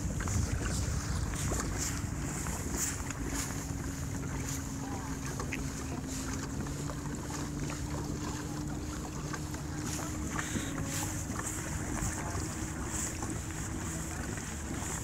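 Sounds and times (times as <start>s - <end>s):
water lapping against hull: 0.0s - 15.0s
wind rumbling on microphone: 0.0s - 15.0s.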